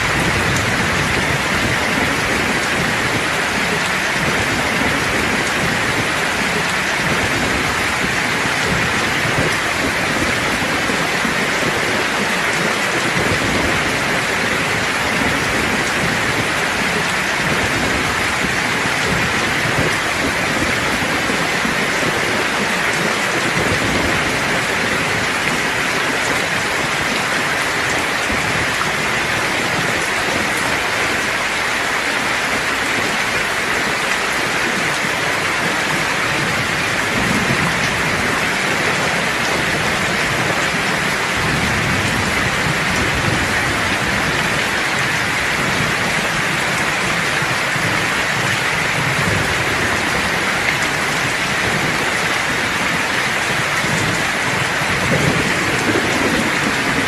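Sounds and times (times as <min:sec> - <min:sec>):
low thunder rumbling: 0:00.0 - 0:31.7, 0:32.5 - 0:57.0
heavy rain hissing: 0:00.0 - 0:57.0.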